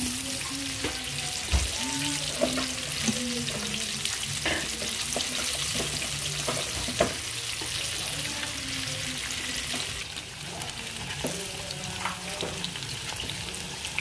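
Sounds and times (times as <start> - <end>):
oil sizzling while deep-frying: 0.0 - 14.0.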